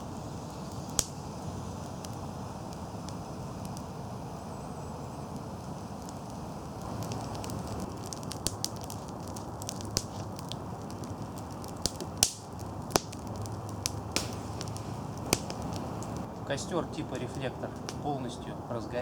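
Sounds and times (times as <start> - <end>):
campfire wood crackling and popping: 0.0 - 19.0
low rush of flame: 0.0 - 19.0.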